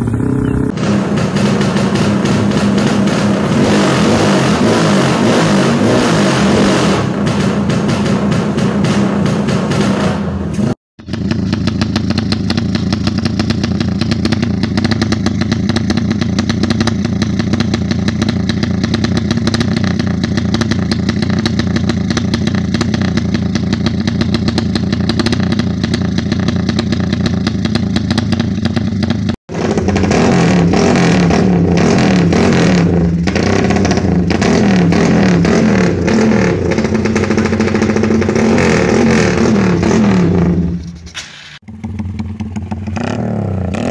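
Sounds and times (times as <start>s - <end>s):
motorcycle throttle blips: 0.0s - 4.6s, 11.0s - 43.9s
motorcycle engine high-revving: 0.0s - 43.9s.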